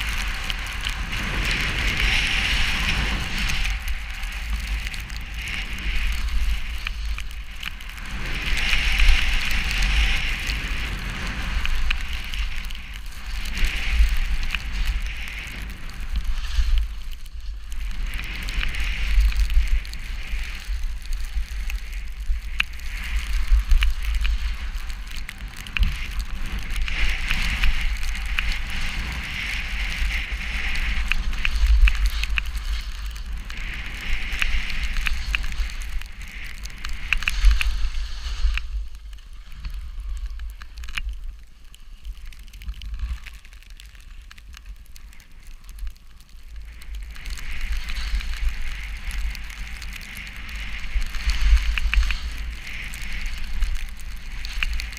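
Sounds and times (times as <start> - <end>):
crackling hiss with ticks: 0.0 - 54.9
wind buffeting microphone: 0.0 - 54.9.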